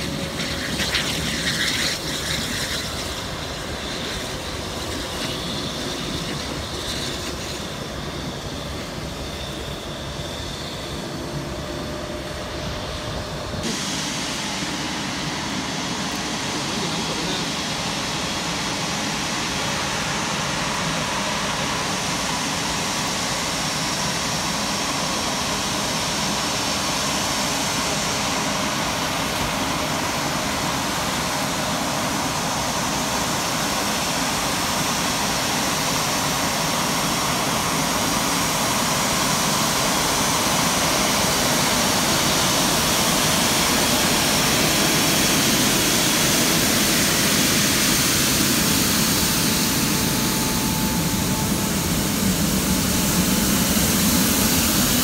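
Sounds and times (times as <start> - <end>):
jet engine noise: 0.0 - 55.0
steady whine: 0.0 - 55.0.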